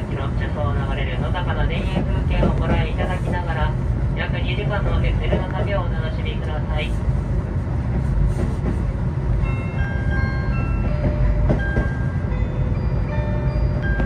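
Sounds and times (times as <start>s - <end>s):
train coach rumble: 0.0s - 14.0s.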